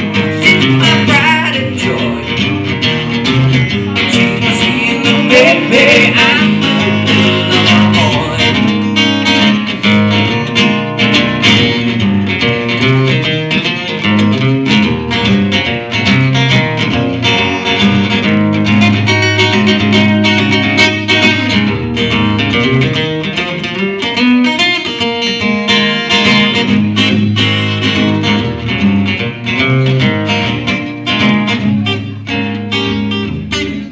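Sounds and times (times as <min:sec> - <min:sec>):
acoustic guitar through speakers: 0:00.0 - 0:33.9.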